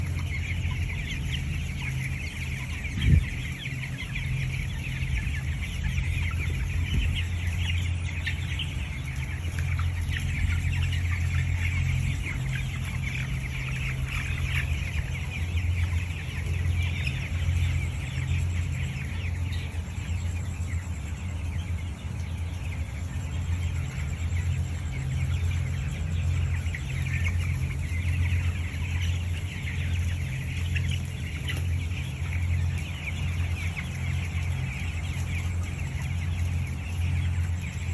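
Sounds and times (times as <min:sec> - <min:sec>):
chickens clucking and chirping: 0:00.0 - 0:37.9
steady low hum: 0:00.0 - 0:37.9.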